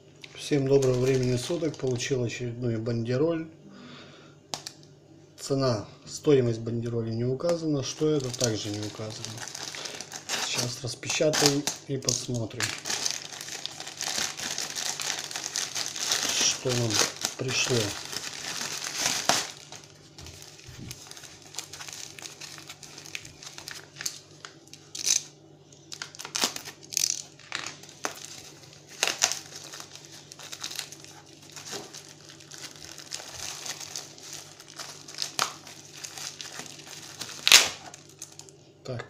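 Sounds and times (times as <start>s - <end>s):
plastic mailer crinkling: 0.3s - 2.1s, 7.4s - 25.3s, 25.9s - 38.6s.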